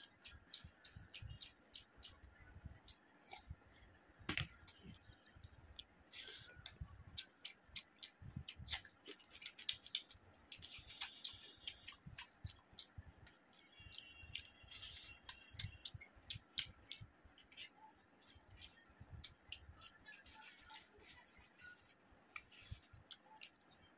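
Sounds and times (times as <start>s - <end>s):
chewing: 0.0s - 3.6s, 4.9s - 23.9s
fingers squishing sticky rice: 0.0s - 3.6s, 4.3s - 23.9s.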